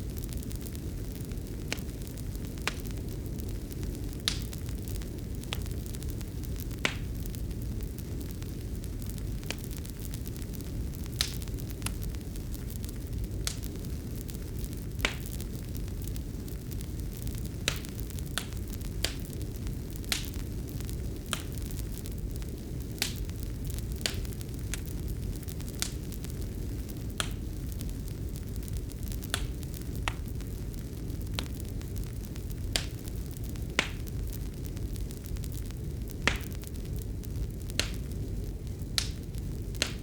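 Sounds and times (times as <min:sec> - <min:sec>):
fire crackling and popping: 0:00.0 - 0:40.0
low rumble of flames: 0:00.0 - 0:40.0.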